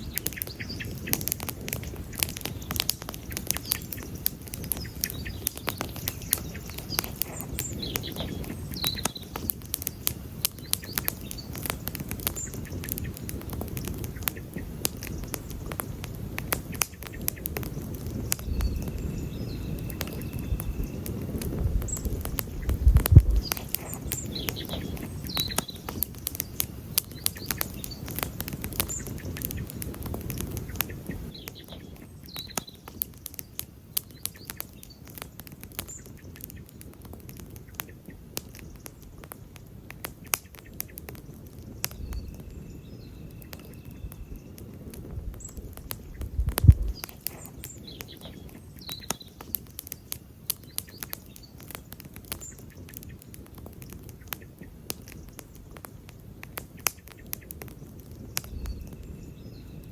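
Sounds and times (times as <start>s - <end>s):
campfire crackling and popping: 0.0s - 59.9s
low rumble of flames: 0.0s - 59.9s.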